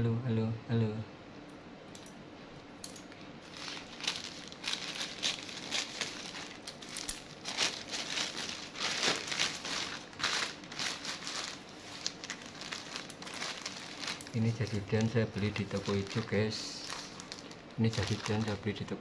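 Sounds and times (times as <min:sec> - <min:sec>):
scissors cutting plastic: 0:02.8 - 0:18.6
plastic bag crinkling: 0:03.1 - 0:19.0.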